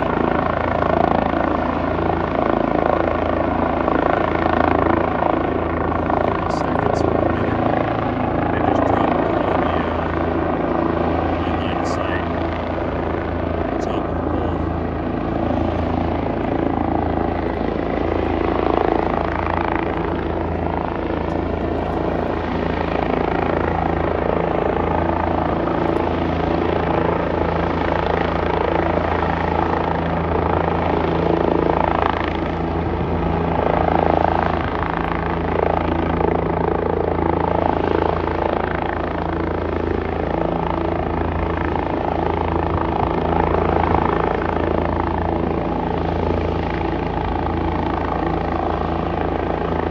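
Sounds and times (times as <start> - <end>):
helicopter rotor beat: 0.0 - 49.9.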